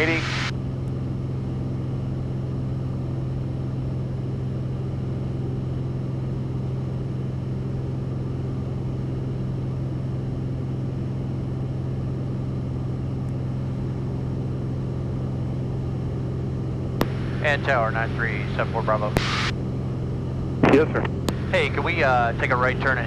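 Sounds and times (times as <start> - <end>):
light aircraft engine droning: 0.0 - 23.0.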